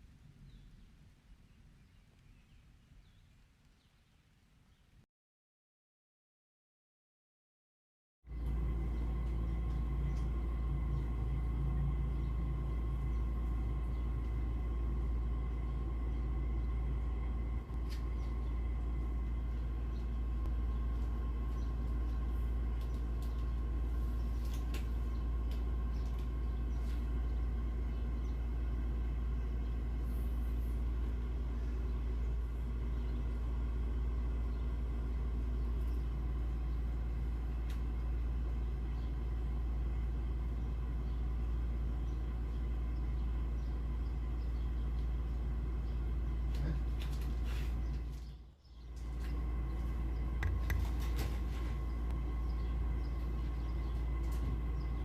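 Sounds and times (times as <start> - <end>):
faint hum: 8.3 - 55.0
low rumble: 8.3 - 55.0.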